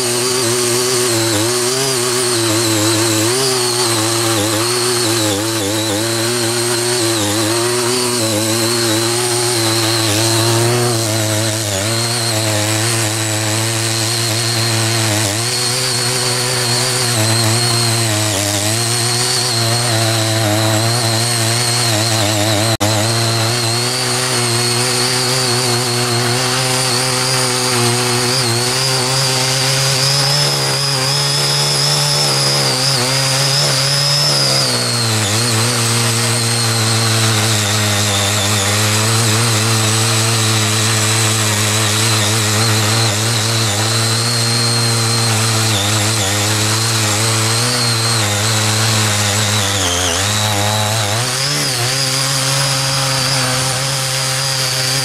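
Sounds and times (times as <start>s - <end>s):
garden tiller engine running: 0.0s - 55.0s.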